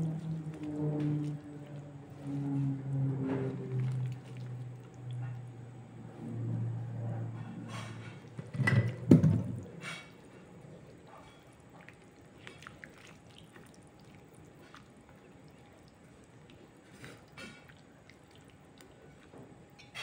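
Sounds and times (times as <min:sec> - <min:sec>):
curry sloshing and squelching: 0:00.0 - 0:20.0.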